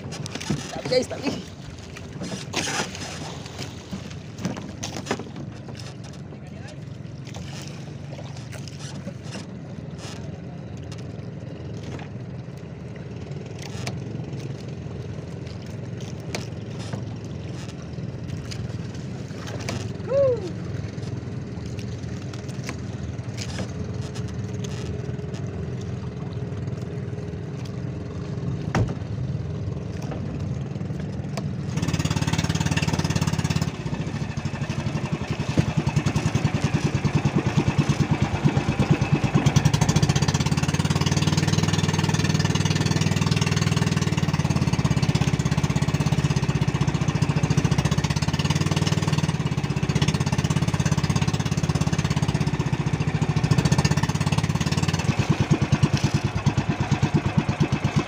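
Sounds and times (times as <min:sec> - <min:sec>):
boat engine chugging: 0:00.0 - 0:58.0.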